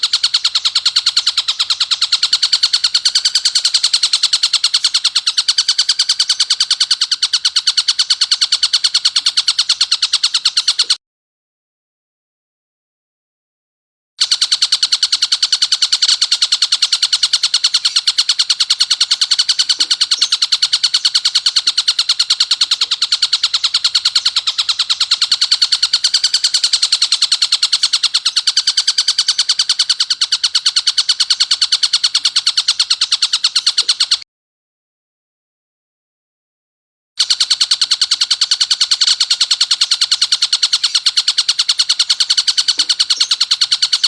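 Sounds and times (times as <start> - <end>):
bird harsh rapid call: 0.0 - 11.0, 14.2 - 34.2, 37.2 - 44.0.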